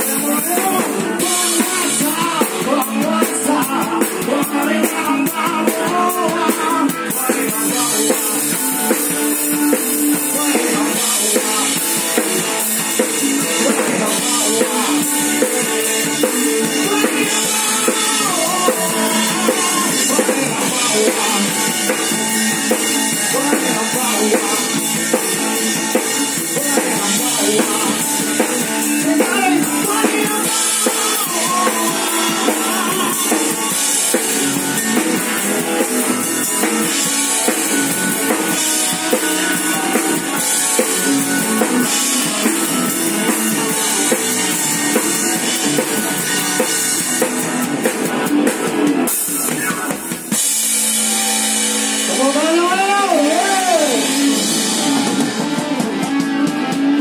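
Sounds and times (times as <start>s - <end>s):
drum kit: 0.0s - 57.0s
live rock band: 0.0s - 57.0s.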